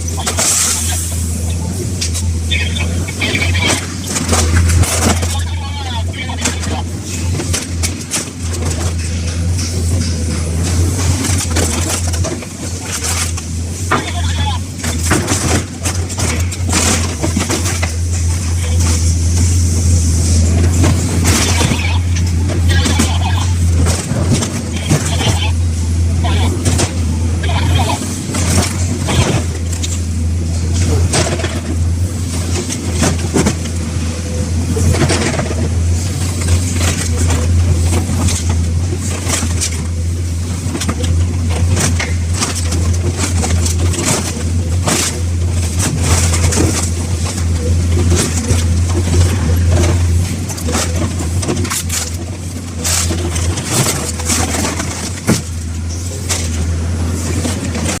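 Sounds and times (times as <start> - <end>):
heavy engine running: 0.0 - 58.0
metal crunches and knocks: 1.9 - 34.0, 34.7 - 58.0.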